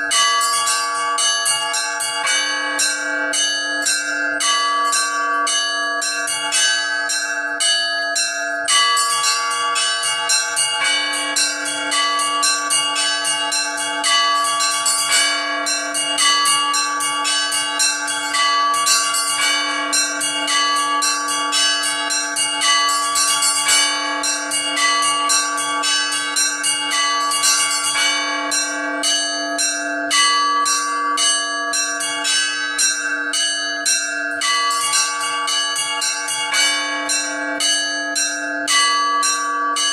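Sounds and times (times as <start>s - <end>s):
small church bells striking: 0.0s - 39.9s.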